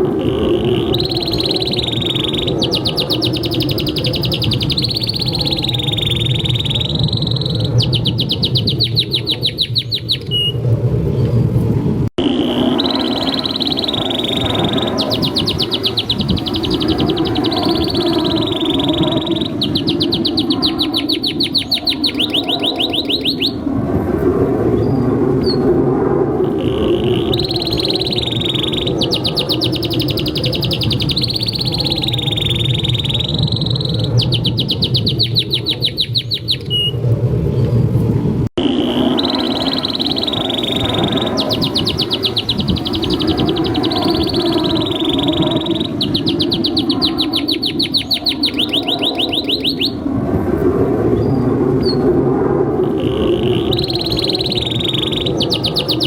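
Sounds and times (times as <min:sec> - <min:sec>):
canary singing trills: 0:00.0 - 0:10.6, 0:12.2 - 0:23.7, 0:26.6 - 0:37.0, 0:38.6 - 0:50.0, 0:52.9 - 0:56.0.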